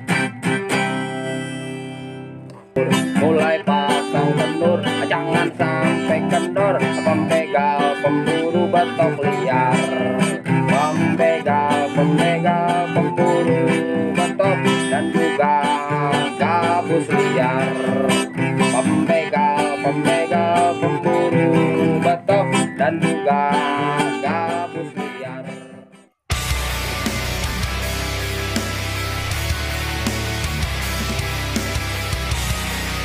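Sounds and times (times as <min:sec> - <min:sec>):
plucked guitar music: 0:00.0 - 0:33.0.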